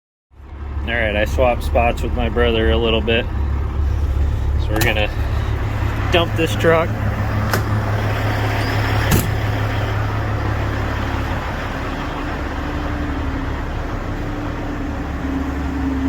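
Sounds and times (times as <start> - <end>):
diesel engine idling: 0.4 - 16.0.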